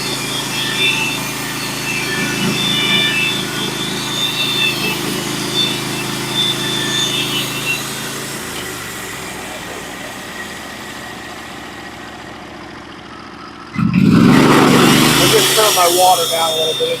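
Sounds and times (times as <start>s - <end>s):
saw blade cutting wood: 0.0s - 12.4s, 14.0s - 17.0s
sawmill engine running: 0.0s - 17.0s.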